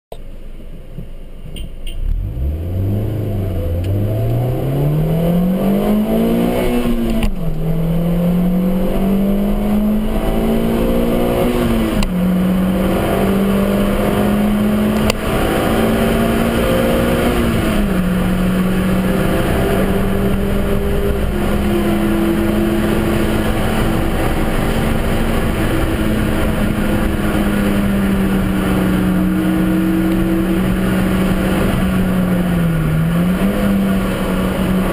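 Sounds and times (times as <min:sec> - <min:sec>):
car engine revving through gears: 0:02.0 - 0:34.9.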